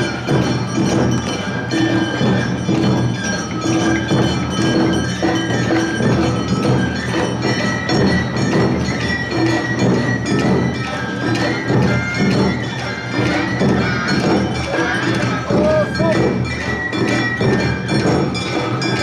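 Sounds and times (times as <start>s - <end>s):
drums beating: 0.0s - 19.0s.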